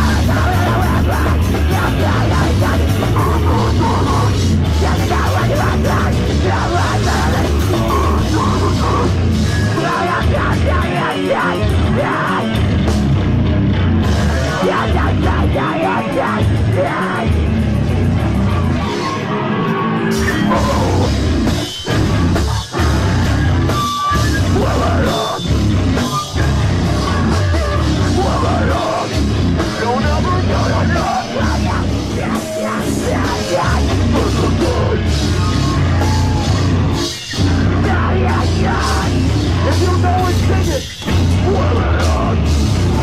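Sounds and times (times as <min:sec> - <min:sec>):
live heavy rock band playing: 0:00.0 - 0:43.0.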